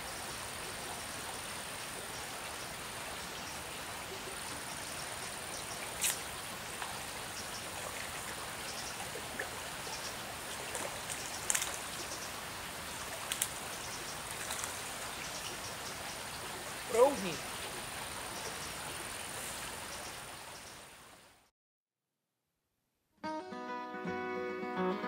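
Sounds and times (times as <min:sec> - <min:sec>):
flowing water hiss: 0:00.0 - 0:21.5.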